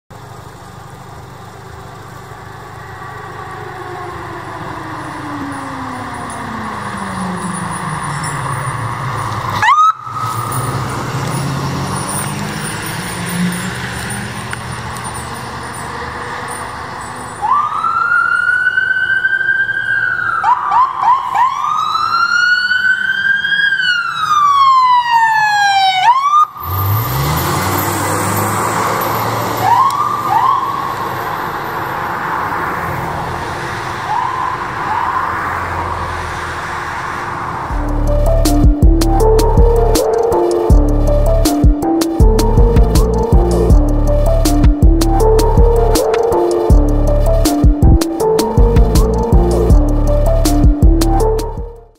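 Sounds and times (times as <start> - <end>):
truck engine rumbling past: 0.1 - 17.5, 26.6 - 29.9, 30.8 - 51.9
wailing and yelping sirens: 1.4 - 51.9.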